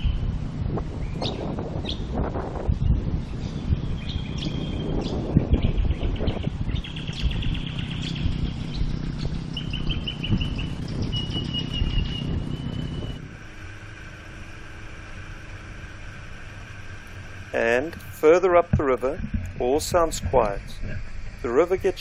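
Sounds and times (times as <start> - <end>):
birds chirping: 0.0 - 22.0
outboard motor running: 0.0 - 22.0
wind buffeting microphone: 0.0 - 22.0.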